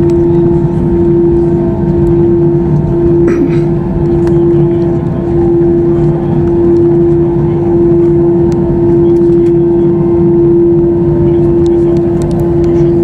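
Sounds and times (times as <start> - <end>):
aircraft mechanical drone: 0.0 - 13.0.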